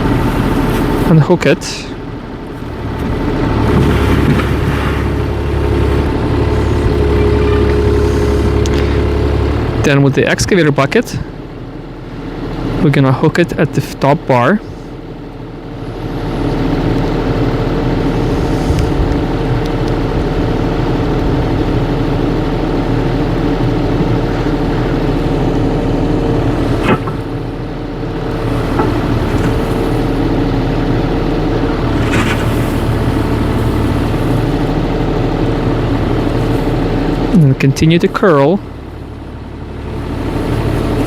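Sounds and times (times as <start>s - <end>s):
excavator engine under load: 0.0s - 41.0s
hydraulics working: 0.0s - 41.0s.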